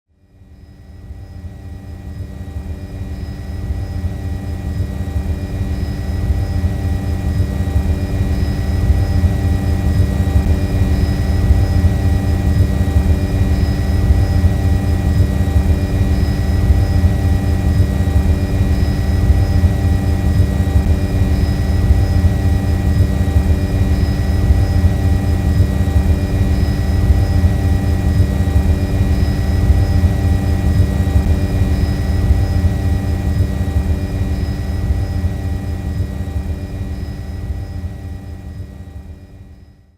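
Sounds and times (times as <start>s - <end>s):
drone propellers humming: 1.5s - 38.9s.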